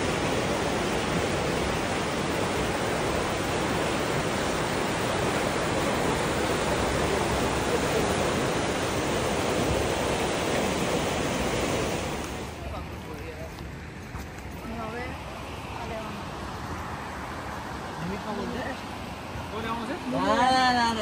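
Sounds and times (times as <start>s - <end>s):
creek rushing white water: 0.0s - 14.0s, 14.6s - 21.0s.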